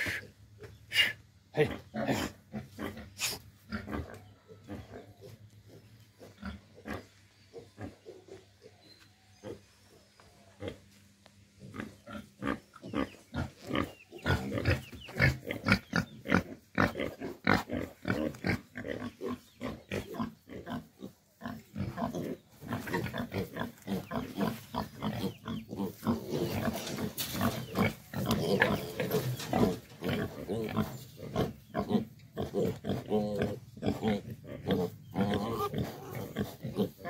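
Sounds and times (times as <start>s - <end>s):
pigs grunting: 0.0s - 8.8s, 11.6s - 37.0s.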